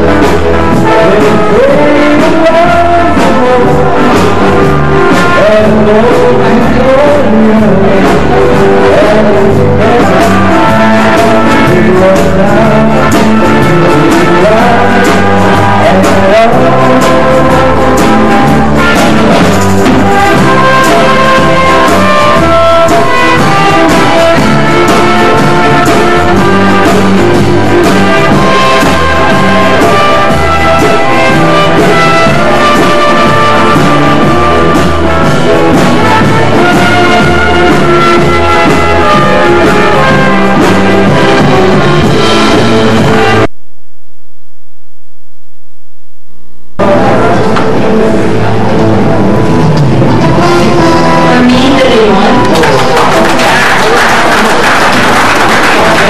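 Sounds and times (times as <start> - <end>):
electric guitar: 0.0 - 43.6, 46.8 - 56.0
live band music: 0.0 - 43.6, 46.8 - 56.0
bass line: 0.0 - 56.0
drums: 0.0 - 56.0.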